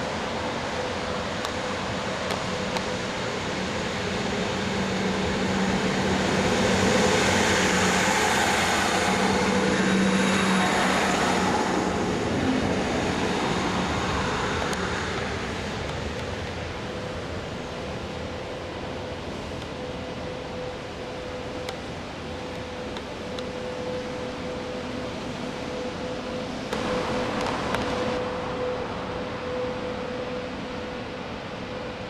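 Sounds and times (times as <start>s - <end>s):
diesel railcar passing: 0.0s - 32.0s.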